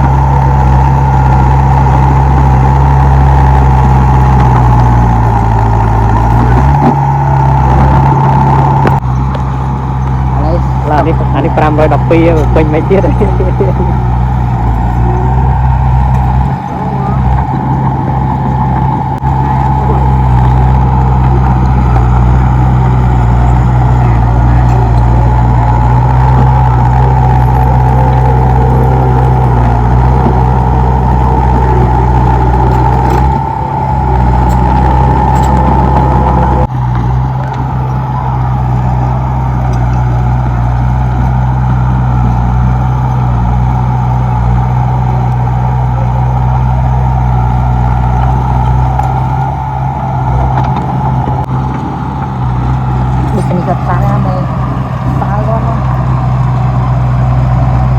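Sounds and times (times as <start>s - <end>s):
bulldozer diesel engine under load: 0.0s - 57.9s
high whine: 0.0s - 57.9s.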